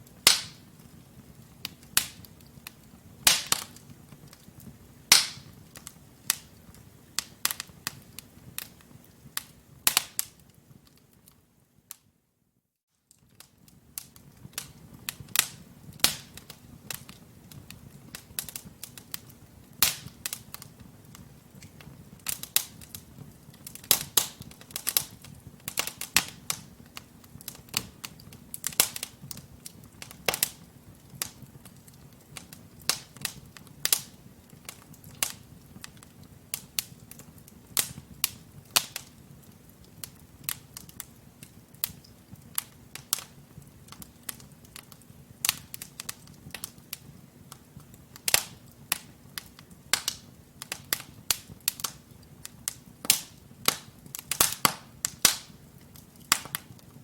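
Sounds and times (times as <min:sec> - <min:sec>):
logs crackling and popping: 0:00.0 - 0:12.0, 0:13.1 - 0:57.0.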